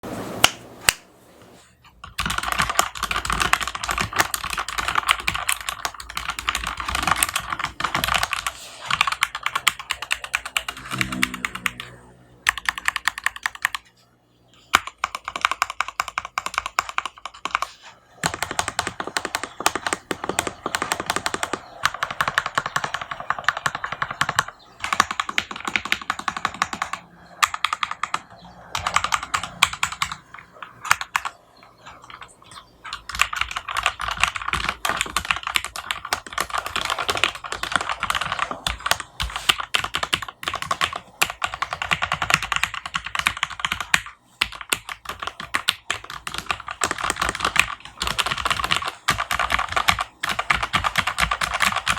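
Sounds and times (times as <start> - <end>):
mechanical keyboard typing: 2.0 - 13.9, 14.7 - 51.9.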